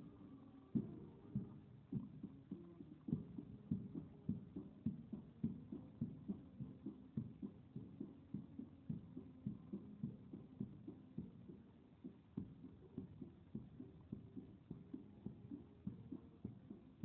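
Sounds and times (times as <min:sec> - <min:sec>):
bass drum beating march time: 0:00.7 - 0:17.0.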